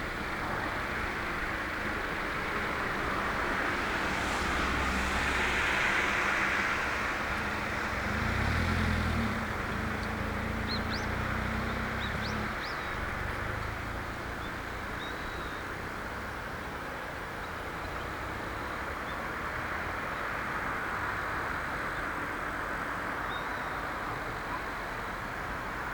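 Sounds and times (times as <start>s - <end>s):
distant road traffic: 0.0s - 25.9s
vehicle engine hum: 0.0s - 25.9s.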